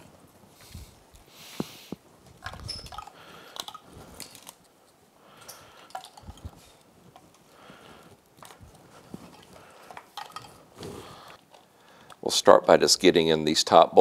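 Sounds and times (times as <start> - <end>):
rustling of wires: 0.0 - 12.8.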